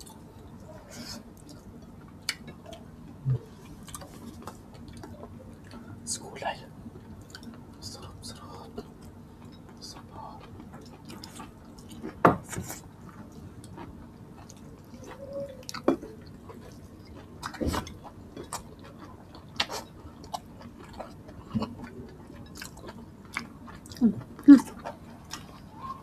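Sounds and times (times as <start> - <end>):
people chewing: 0.0 - 6.0, 7.1 - 26.0.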